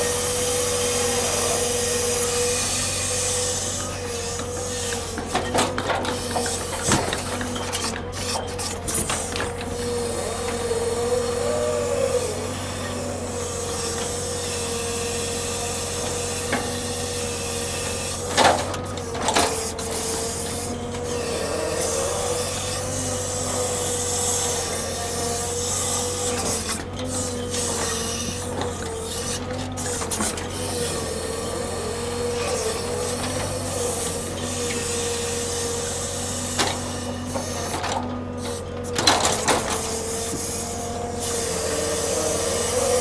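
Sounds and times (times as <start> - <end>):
heavy machinery whining: 0.0 - 43.0.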